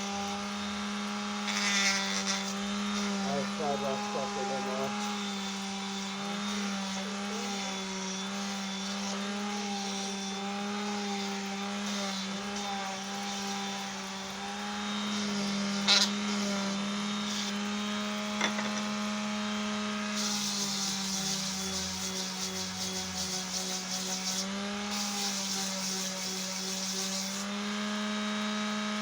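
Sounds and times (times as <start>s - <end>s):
electric sander sanding wood: 0.0s - 29.0s.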